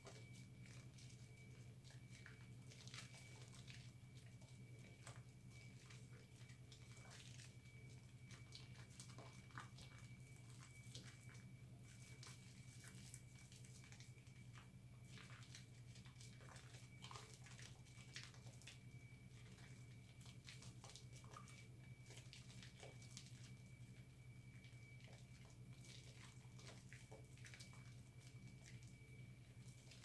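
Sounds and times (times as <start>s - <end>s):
steady low hum: 0.0s - 30.0s
wet squishing of soap lather: 0.0s - 30.0s.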